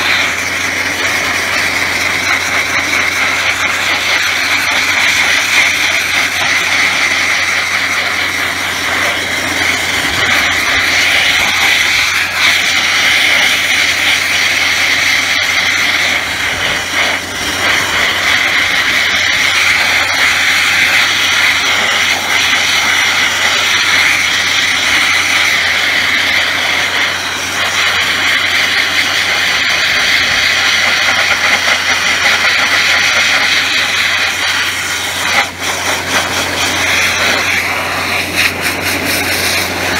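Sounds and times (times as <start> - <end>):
wet abrasive blasting hiss: 0.0 - 39.9.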